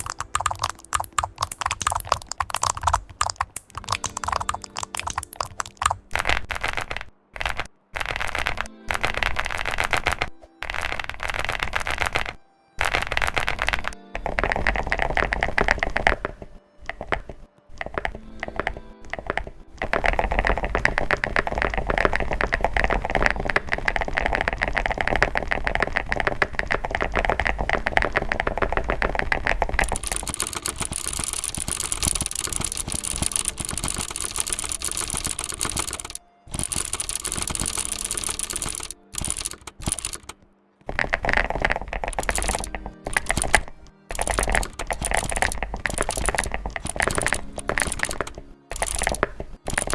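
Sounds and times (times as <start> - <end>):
fast keyboard typing: 0.0 - 49.9.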